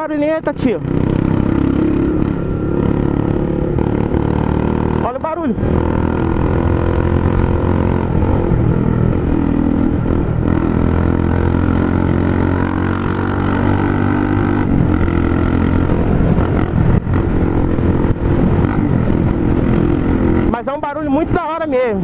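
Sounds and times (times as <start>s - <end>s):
loud motorcycle engine: 0.0s - 22.0s.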